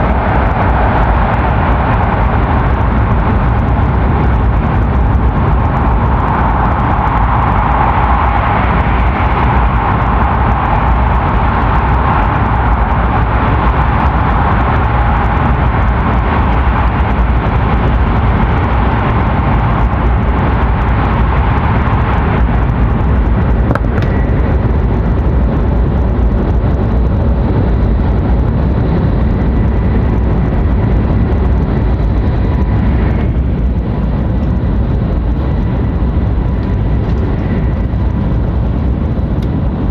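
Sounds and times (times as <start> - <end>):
train rumble and rushing: 0.0 - 39.9.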